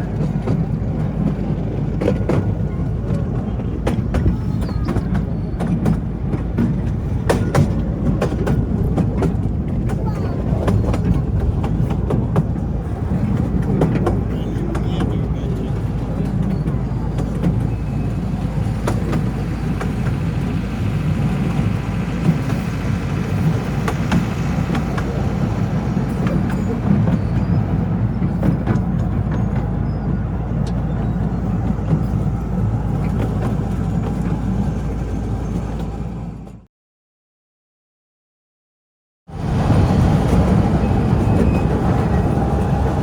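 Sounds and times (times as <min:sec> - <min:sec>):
train rumbling: 0:00.0 - 0:36.7, 0:39.3 - 0:43.0
wheels clicking and knocking: 0:00.0 - 0:36.7, 0:39.3 - 0:43.0.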